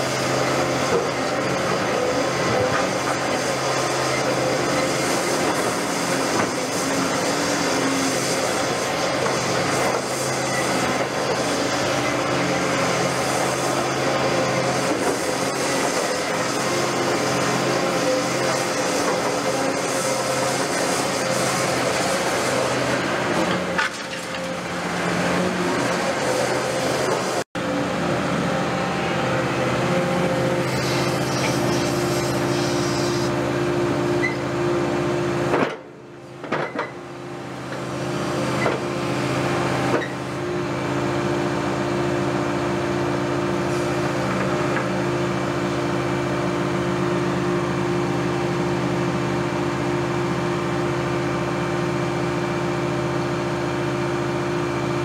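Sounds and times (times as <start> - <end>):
excavator engine and hydraulics humming: 0.0 - 55.0.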